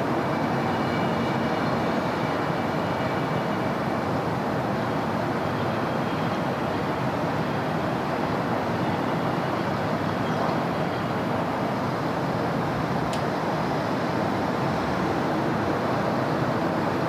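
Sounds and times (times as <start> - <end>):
city road traffic: 0.0 - 17.0.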